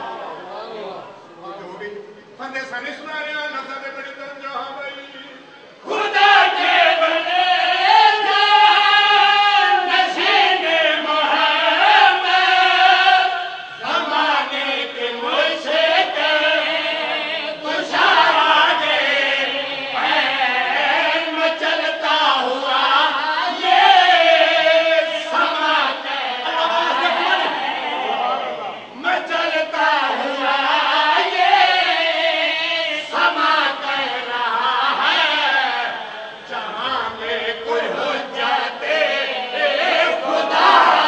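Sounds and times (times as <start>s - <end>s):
men chanting devotional song: 0.0s - 41.0s.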